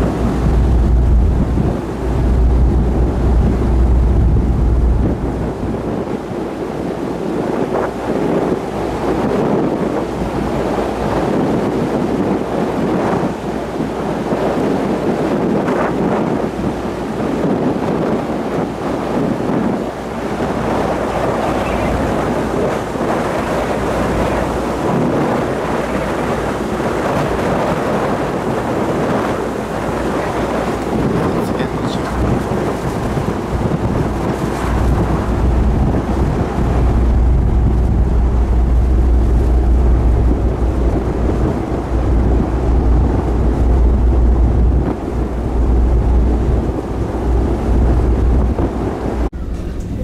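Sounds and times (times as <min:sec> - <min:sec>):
sea rushing along hull: 0:00.0 - 0:50.0
wind buffeting microphone: 0:00.0 - 0:50.0.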